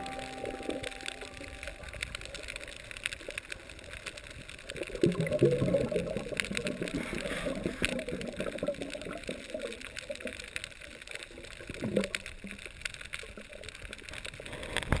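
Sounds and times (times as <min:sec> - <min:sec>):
low underwater rush: 0:00.0 - 0:12.4
underwater clicks and crackles: 0:00.0 - 0:15.0.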